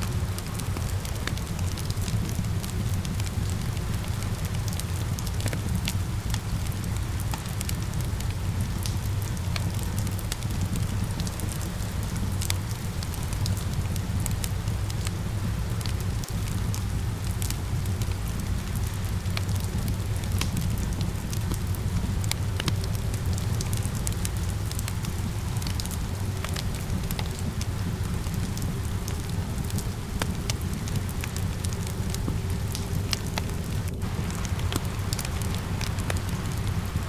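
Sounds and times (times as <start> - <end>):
rain hissing: 0.0 - 37.0
wood fire crackling and popping: 0.0 - 37.0.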